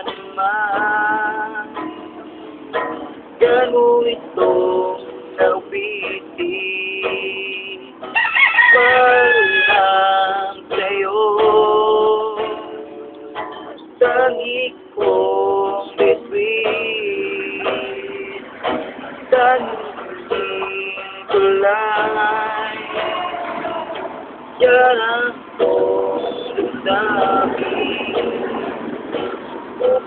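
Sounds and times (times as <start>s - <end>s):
man singing: 0.0s - 2.2s, 3.4s - 8.0s, 8.6s - 13.0s, 13.9s - 28.9s, 29.7s - 30.0s
strummed acoustic guitar: 0.0s - 30.0s.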